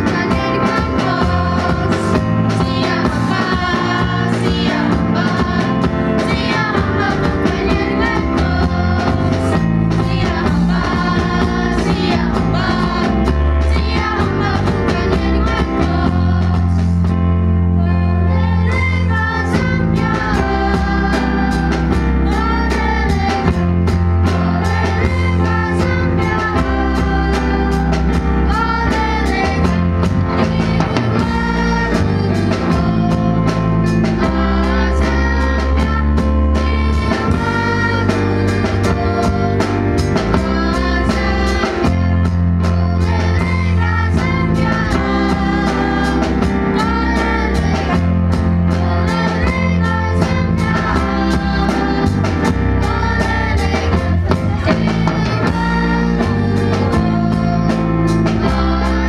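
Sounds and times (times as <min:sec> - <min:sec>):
song with singing guitar and drums: 0:00.0 - 0:59.0.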